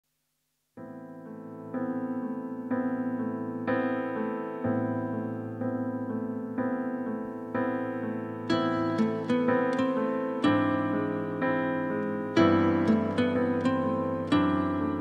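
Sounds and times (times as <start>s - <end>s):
electric piano chords: 0.8s - 15.0s.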